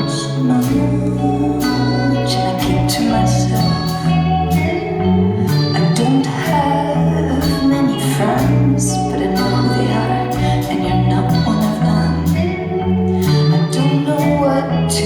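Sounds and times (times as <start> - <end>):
bass guitar notes: 0.0 - 15.0
guitar: 0.0 - 15.0
woman singing: 0.0 - 15.0.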